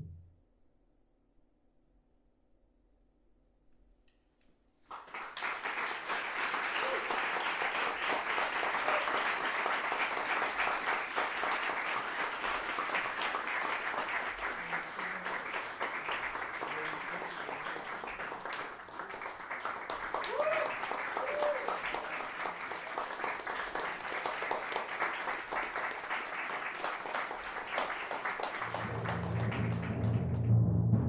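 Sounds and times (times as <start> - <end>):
audience applauding: 4.9 - 30.5.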